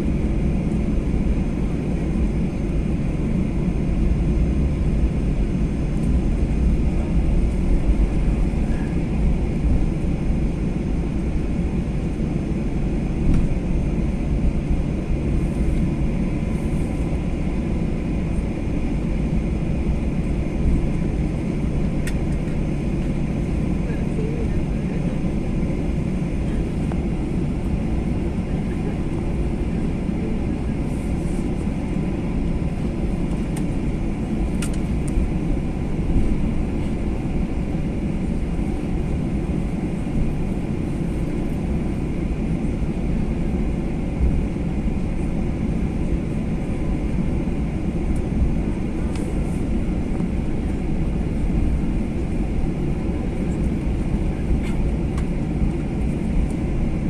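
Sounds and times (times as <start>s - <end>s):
low rumble in aircraft cabin: 0.0s - 57.0s.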